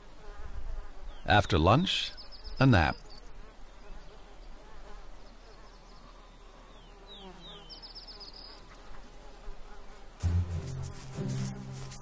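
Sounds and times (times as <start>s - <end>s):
flies buzzing: 0.0s - 12.0s.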